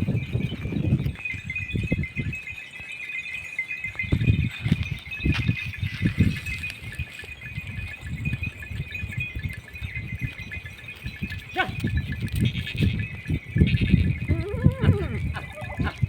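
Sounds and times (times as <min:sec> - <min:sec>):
animal bells jingling: 0:00.0 - 0:16.0.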